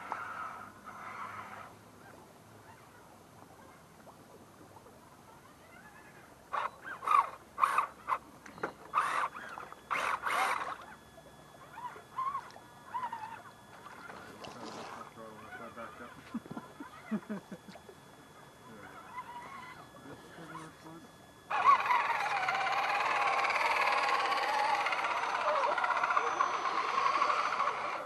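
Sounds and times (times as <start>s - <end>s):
rc truck motor whine: 0.0s - 1.8s, 5.4s - 11.0s, 11.6s - 17.4s, 18.6s - 28.0s.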